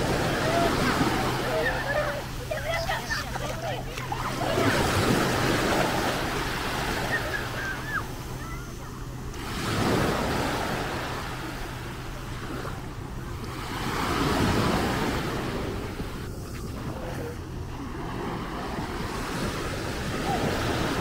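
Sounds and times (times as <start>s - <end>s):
small waves washing onto sand: 0.0s - 21.0s.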